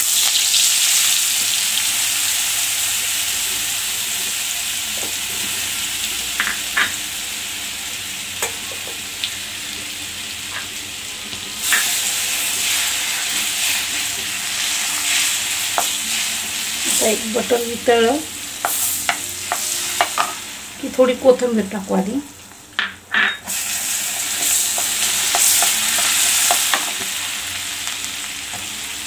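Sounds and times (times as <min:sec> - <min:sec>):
butter sizzling in a pan: 0:00.0 - 0:29.0.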